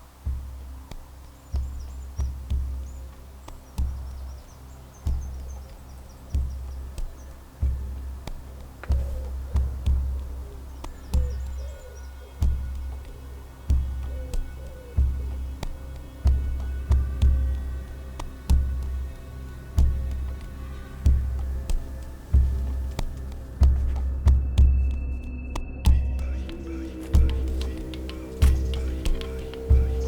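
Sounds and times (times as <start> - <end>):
birds chirping: 0.0 - 30.0
slow deep drum beats: 0.0 - 30.0.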